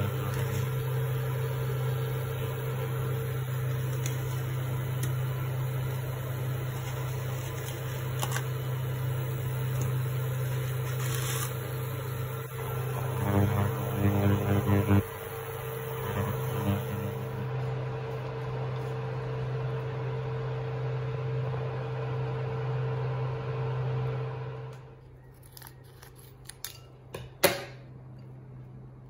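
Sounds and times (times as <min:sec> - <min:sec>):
electric kitchen hum: 0:00.0 - 0:29.0.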